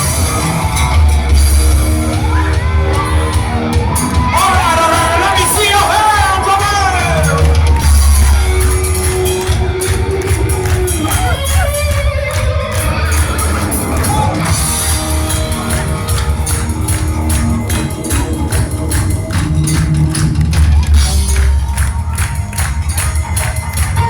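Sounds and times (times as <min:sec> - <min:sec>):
drums on cymbals: 0:00.0 - 0:24.0
live rock band playing: 0:00.0 - 0:24.0.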